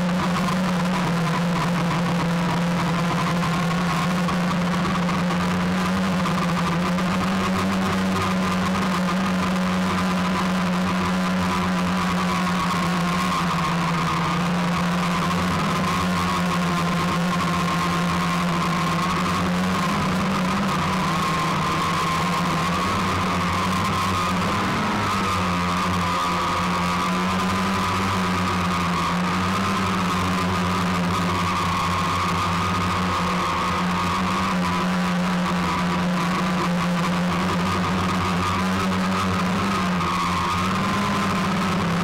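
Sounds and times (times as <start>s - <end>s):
drone propellers whining: 0.0s - 42.0s.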